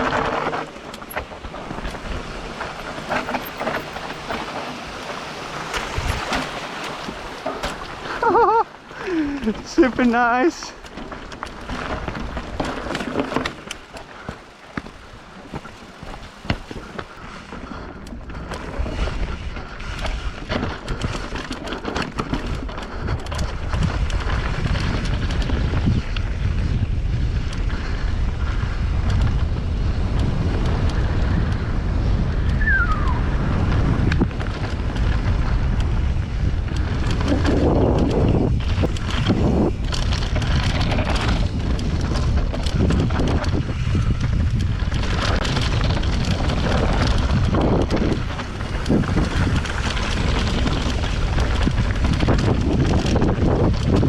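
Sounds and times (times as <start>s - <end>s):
bicycle frame rattling: 0.0s - 32.5s, 33.5s - 54.0s
wind buffeting microphone: 0.0s - 54.0s.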